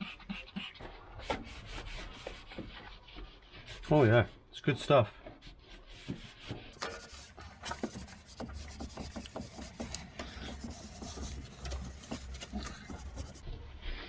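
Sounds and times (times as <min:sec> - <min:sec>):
cloth scrubbing painted metal: 0:00.0 - 0:13.5.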